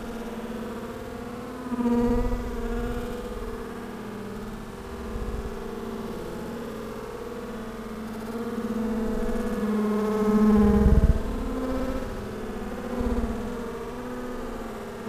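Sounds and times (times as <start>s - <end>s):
honeybees buzzing: 1.6s - 15.0s.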